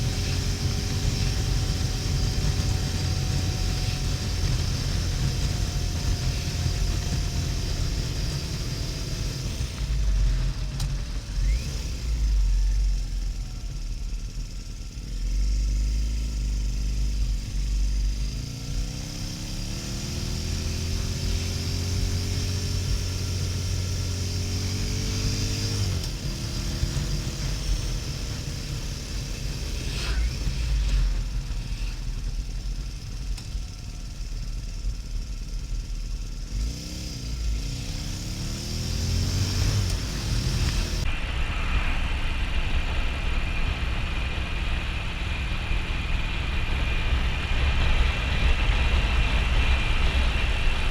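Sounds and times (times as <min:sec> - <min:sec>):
motorcycle engine under way: 0:00.0 - 0:50.9.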